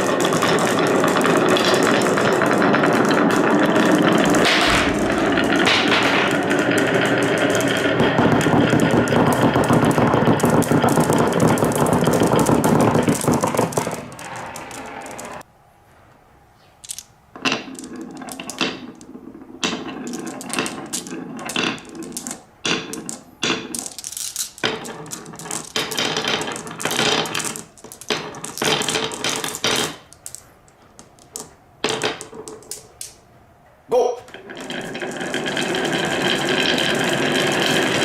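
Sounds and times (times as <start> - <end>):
marbles clattering down wooden run: 0.0 - 15.4, 16.8 - 30.4, 31.0 - 33.1, 34.4 - 38.0.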